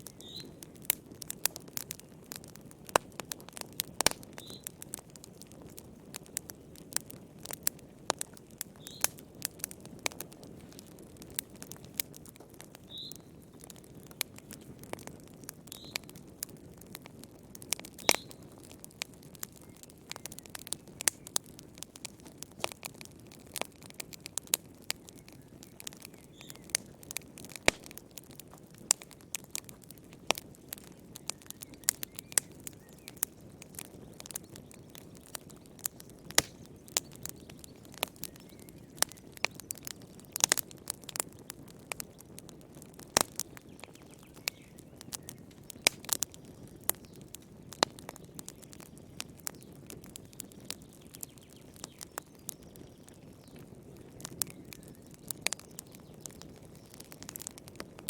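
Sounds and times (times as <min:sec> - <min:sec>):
low rush of burning: 0:00.0 - 0:51.2
wood fire crackling: 0:00.0 - 0:58.0.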